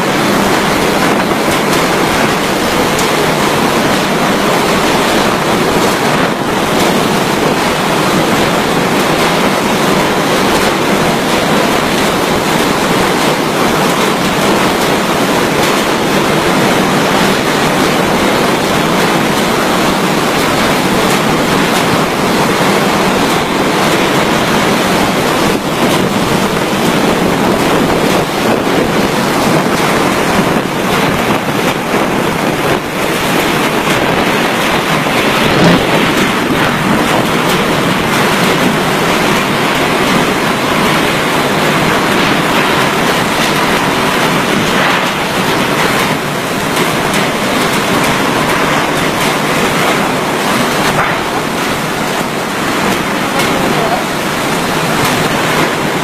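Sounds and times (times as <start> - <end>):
wind and surf rushing: 0.0 - 56.0
wind buffeting microphone: 0.0 - 56.0.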